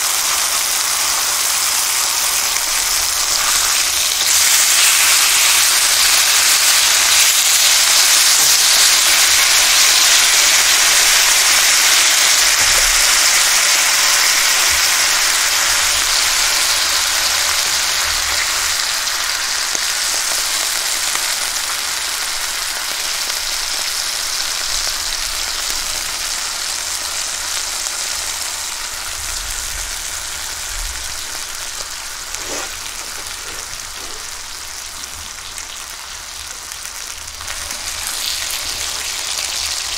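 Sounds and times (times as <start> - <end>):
beef sizzling in a pan: 0.0 - 39.9.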